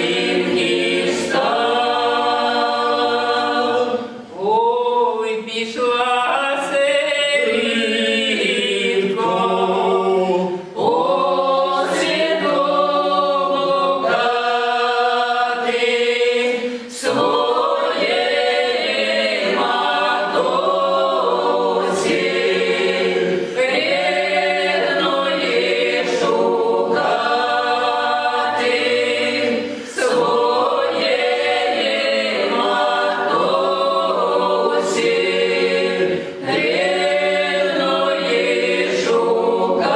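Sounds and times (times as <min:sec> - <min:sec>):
choir singing unaccompanied in parts: 0:00.0 - 0:39.9.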